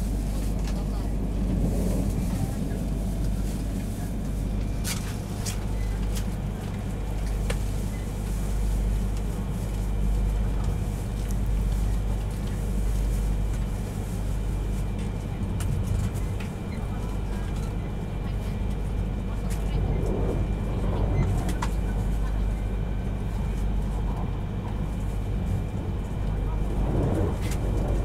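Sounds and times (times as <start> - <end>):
train rumbling inside passenger car: 0.0 - 28.0.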